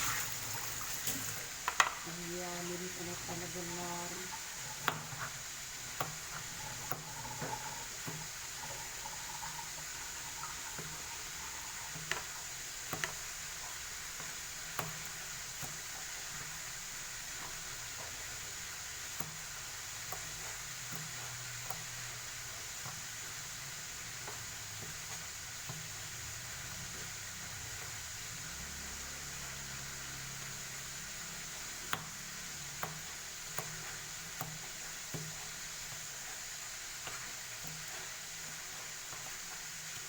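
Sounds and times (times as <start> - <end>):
pan sizzling: 0.0 - 40.0.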